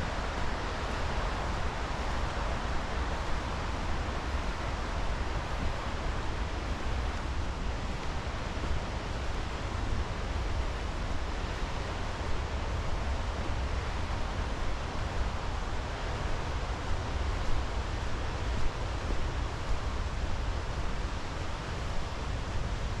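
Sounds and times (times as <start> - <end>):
creek and waterfall rushing: 0.0 - 23.0.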